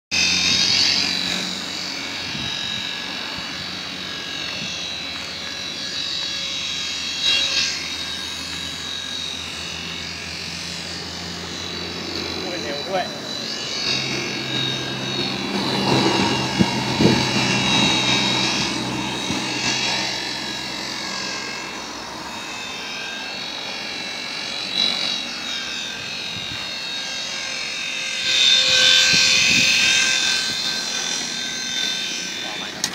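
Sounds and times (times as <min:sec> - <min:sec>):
small electric motor whine: 0:00.1 - 0:32.9.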